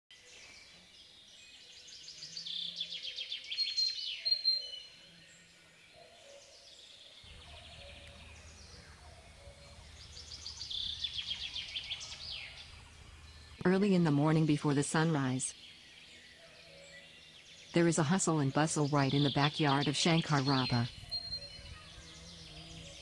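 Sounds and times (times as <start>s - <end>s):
songbird singing: 0.1s - 23.0s.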